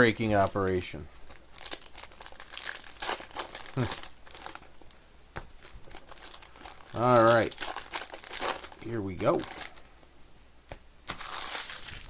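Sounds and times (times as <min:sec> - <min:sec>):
foil wrapper crinkling: 0:00.3 - 0:09.8, 0:11.1 - 0:12.0.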